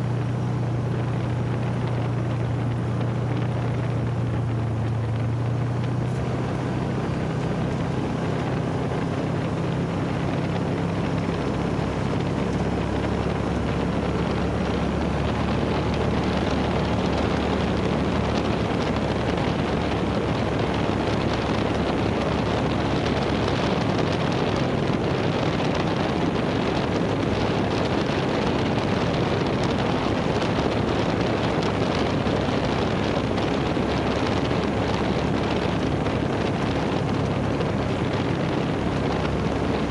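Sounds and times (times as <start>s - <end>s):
vehicle engine running: 0.0s - 39.9s
wind rushing over microphone: 0.0s - 39.9s.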